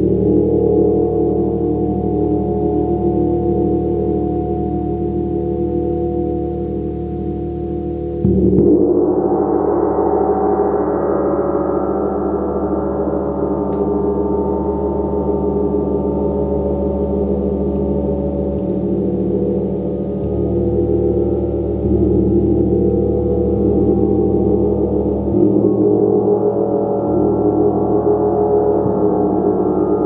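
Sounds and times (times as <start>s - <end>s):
deep sustained hum: 0.0s - 30.0s.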